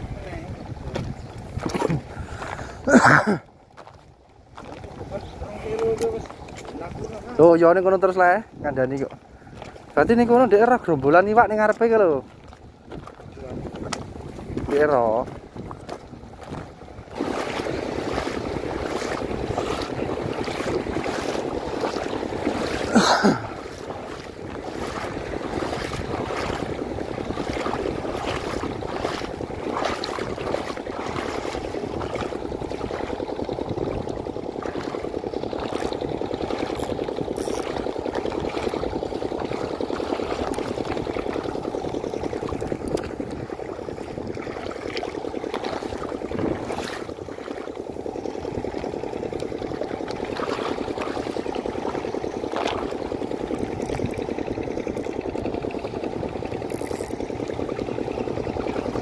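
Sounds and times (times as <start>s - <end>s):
seawater washing at shoreline: 0.0s - 59.0s.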